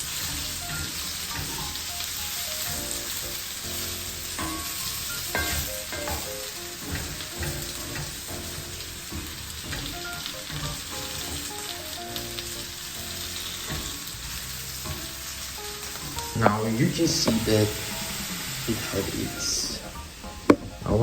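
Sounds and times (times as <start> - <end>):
potatoes sizzling in a pan: 0.0 - 21.0.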